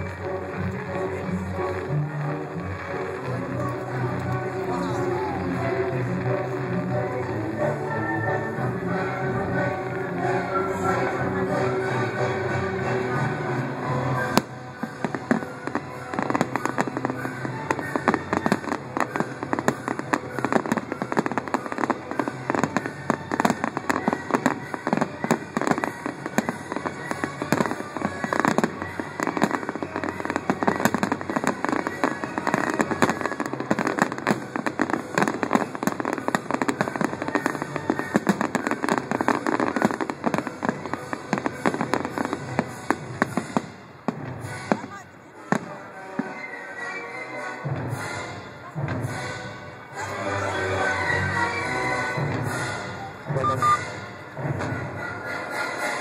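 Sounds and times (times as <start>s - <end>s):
fireworks bursting and crackling: 0.0s - 46.8s, 47.6s - 56.0s.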